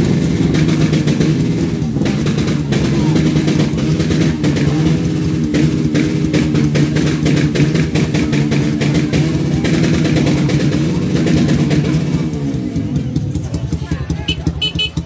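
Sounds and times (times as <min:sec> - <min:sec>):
motorcycle engine running loudly: 0:00.0 - 0:15.0.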